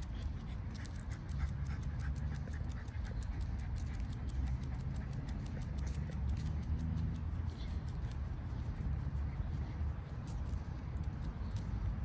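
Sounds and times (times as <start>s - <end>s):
dog panting: 0.0s - 10.3s.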